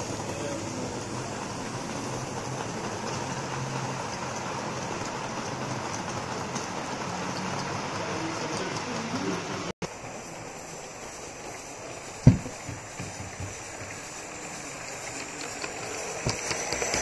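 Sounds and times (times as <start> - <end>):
model train wheels rolling on rails: 0.0 - 17.0.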